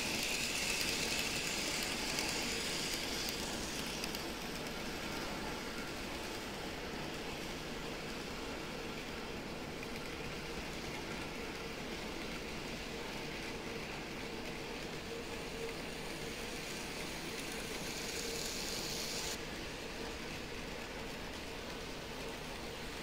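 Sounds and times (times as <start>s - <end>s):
model train motor hum: 0.0s - 23.0s
rolling hiss of train: 0.0s - 23.0s.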